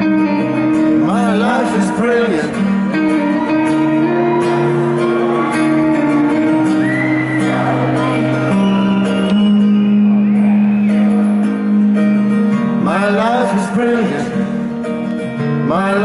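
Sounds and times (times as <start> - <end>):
live band playing: 0.0 - 15.7
strummed acoustic guitar: 0.0 - 16.0.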